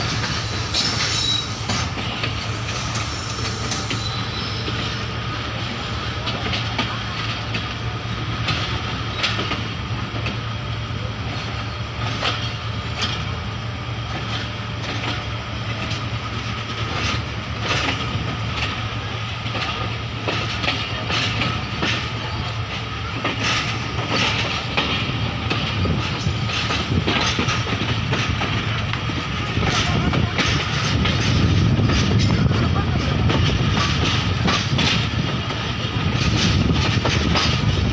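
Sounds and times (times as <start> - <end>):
train low rumble: 0.0 - 37.9
train wheels clicking over rail joints: 0.0 - 37.9.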